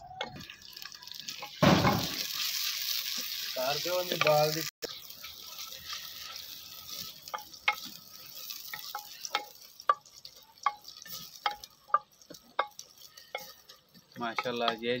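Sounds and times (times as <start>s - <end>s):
onions sizzling: 0.0s - 15.0s.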